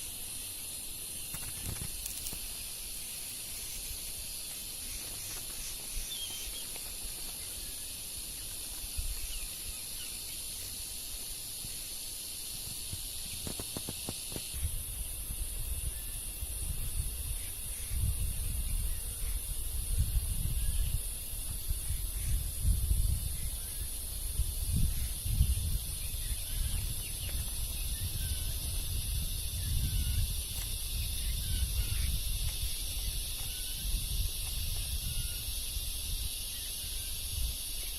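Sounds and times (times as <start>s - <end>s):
forest insects droning: 0.0s - 37.9s.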